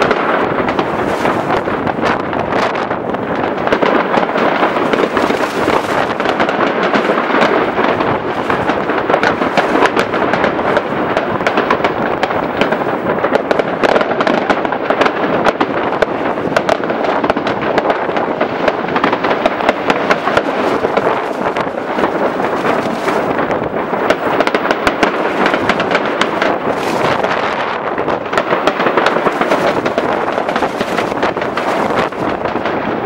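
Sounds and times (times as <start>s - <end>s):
fireworks crackling and banging: 0.0s - 33.0s.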